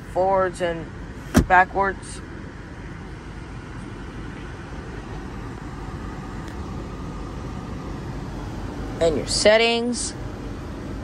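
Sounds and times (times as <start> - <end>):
car cabin hum and hiss: 0.0 - 11.0.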